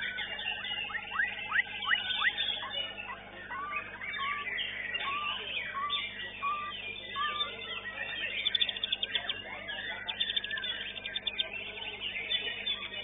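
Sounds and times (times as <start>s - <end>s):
bird chirps: 0.0s - 13.0s
bird singing whistled notes: 0.0s - 13.0s.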